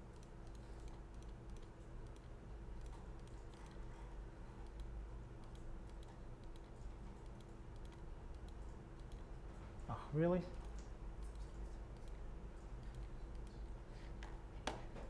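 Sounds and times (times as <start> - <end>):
computer mouse clicks: 0.0 - 9.3, 10.6 - 14.4
low electrical hum: 0.0 - 15.0.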